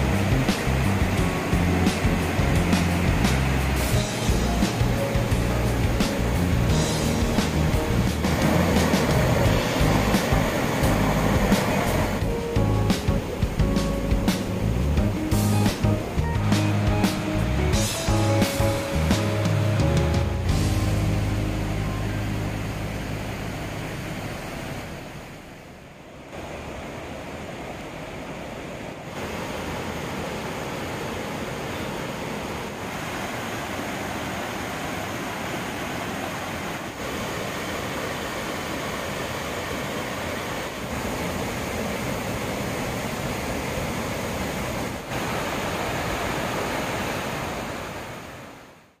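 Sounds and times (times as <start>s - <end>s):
stream rushing over rocks: 0.0s - 49.0s.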